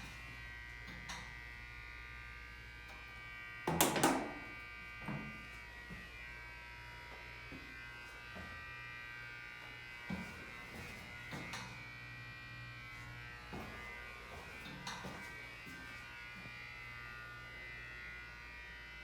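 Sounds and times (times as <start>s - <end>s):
elevator electrical buzz: 0.0s - 19.0s.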